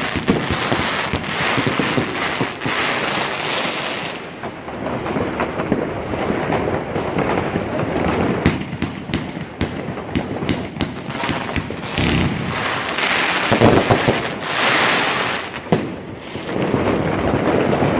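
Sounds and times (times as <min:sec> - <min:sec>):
firework crackling and banging: 0:00.0 - 0:17.9.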